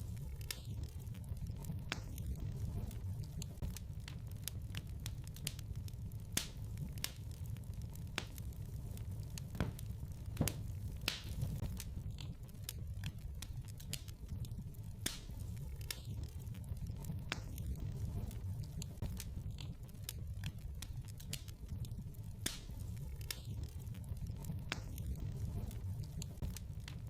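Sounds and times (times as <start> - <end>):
fire crackling and popping: 0.0 - 27.0
low fire rumble: 0.0 - 27.0.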